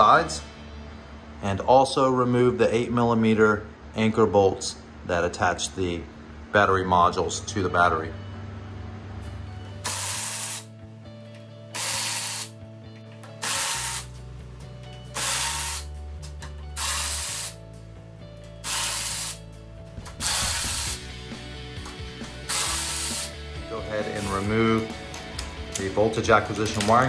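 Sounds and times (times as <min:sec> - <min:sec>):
low background music: 0:00.0 - 0:27.0.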